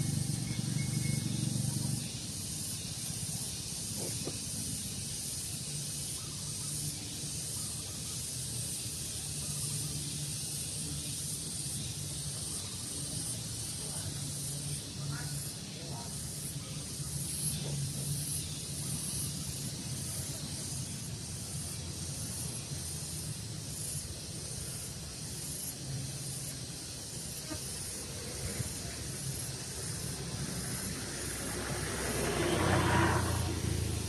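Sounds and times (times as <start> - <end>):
pulsing high hiss: 0.0 - 34.0.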